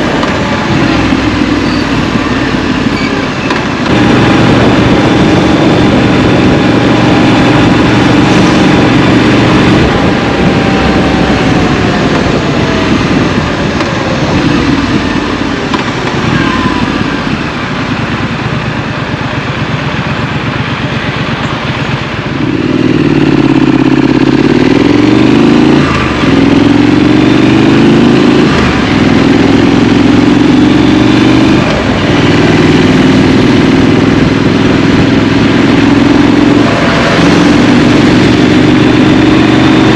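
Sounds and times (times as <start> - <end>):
motorcycle engine accelerating and slowing: 0.0 - 39.9.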